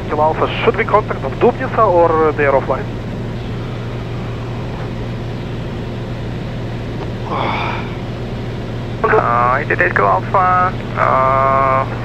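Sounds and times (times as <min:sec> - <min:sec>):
aircraft engine and propeller droning: 0:00.0 - 0:12.0.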